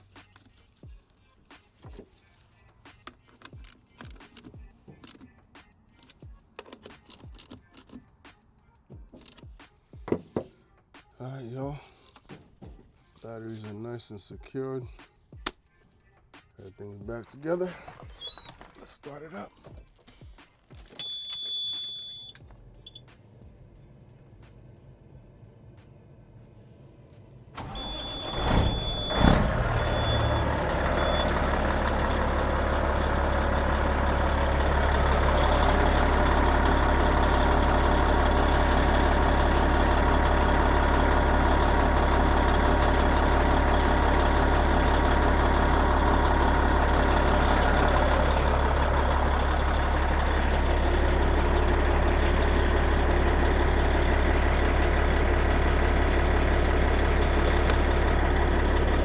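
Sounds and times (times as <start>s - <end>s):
diesel engine cranking and idling: 0.0s - 9.7s, 20.9s - 59.0s.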